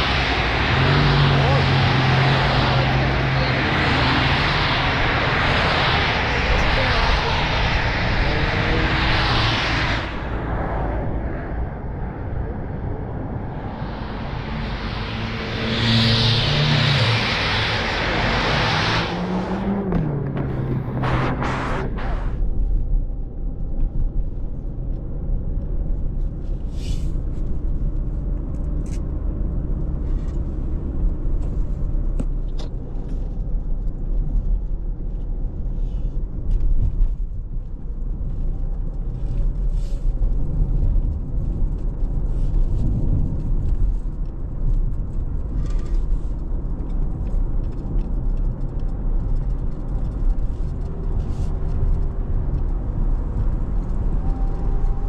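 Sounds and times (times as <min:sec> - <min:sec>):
road vehicle rumbling: 0:00.0 - 0:55.0.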